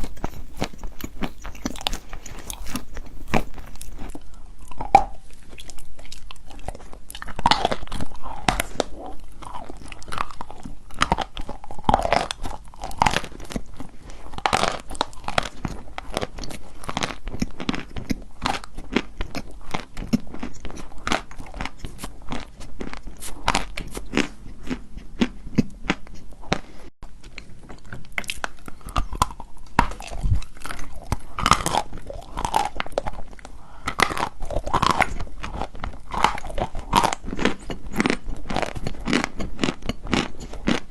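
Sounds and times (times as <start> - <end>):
chalk being chewed: 0.0 - 40.9.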